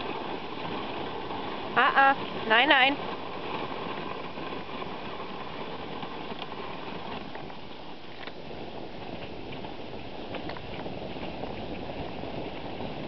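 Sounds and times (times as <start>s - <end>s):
sled runners rushing over snow: 0.0s - 13.0s.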